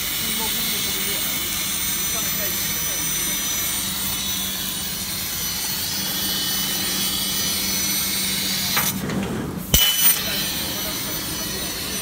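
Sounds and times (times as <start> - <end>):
laser cutter hissing: 0.0 - 9.0, 9.7 - 12.0.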